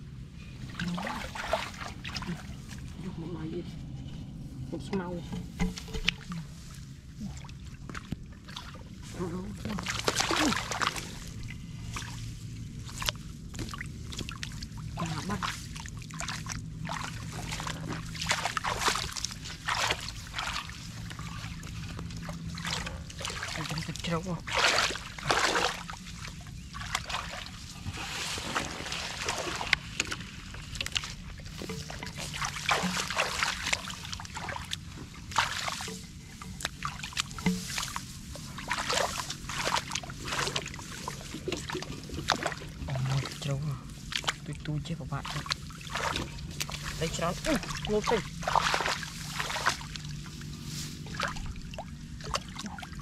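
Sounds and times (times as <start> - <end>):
water splashing: 0.0 - 3.4, 5.4 - 53.0
low hum: 0.0 - 53.0.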